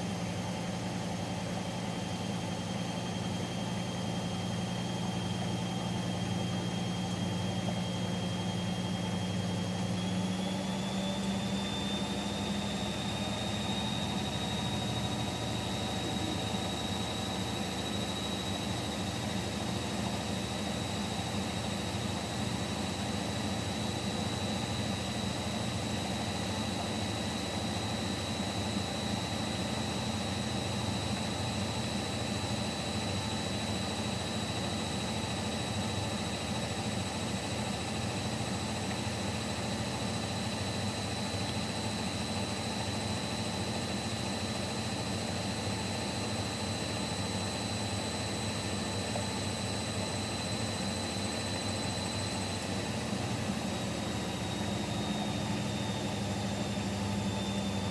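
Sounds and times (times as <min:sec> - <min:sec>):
washing machine spinning: 0:00.1 - 0:57.9.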